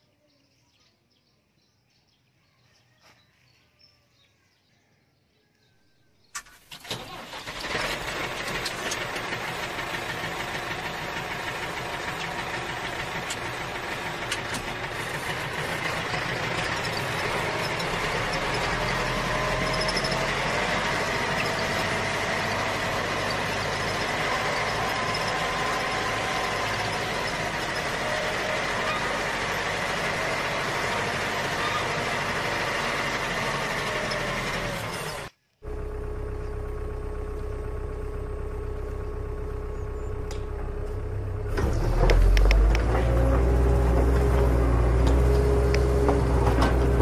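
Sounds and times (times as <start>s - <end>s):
vehicle engine running: 6.8s - 47.0s.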